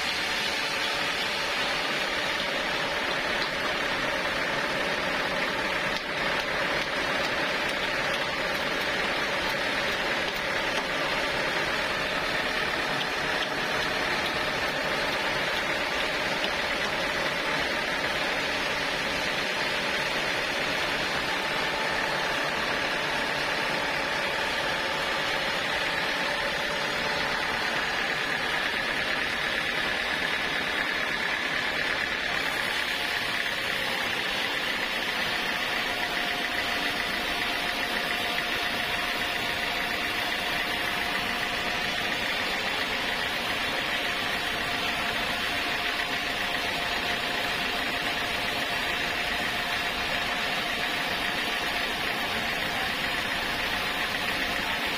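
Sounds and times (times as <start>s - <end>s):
sawmill saw whining: 0.0s - 54.9s.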